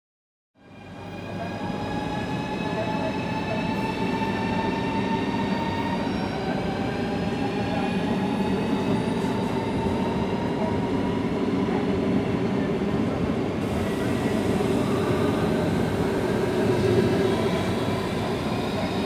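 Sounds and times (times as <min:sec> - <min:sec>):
electric locomotive approaching: 0:00.7 - 0:19.0.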